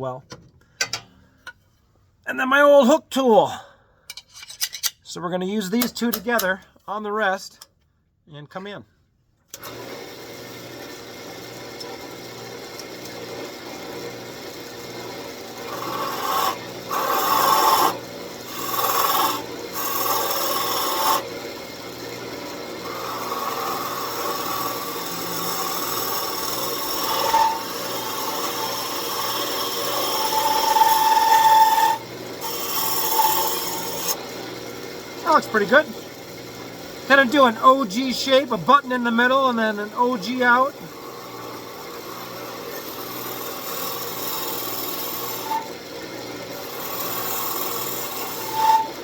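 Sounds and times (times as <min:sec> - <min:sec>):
turning tool cutting wood: 0:09.5 - 0:49.0
lathe motor humming: 0:09.6 - 0:49.0.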